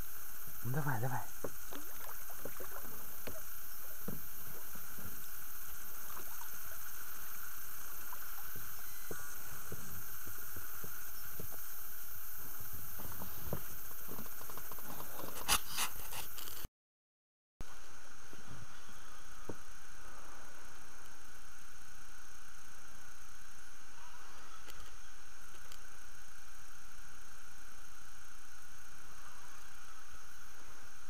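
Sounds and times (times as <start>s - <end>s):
steady hiss: 0.0s - 16.7s, 17.6s - 31.0s.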